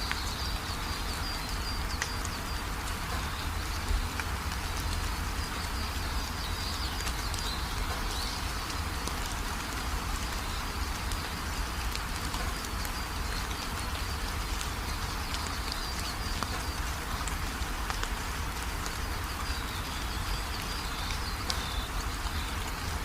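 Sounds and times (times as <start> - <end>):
raindrop ticks: 0.0 - 23.0
steady rain: 0.0 - 23.0.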